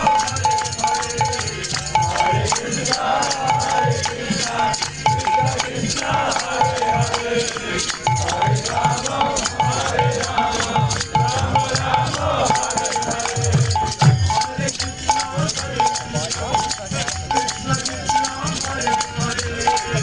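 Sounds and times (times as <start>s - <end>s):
shaking percussion: 0.0s - 20.0s.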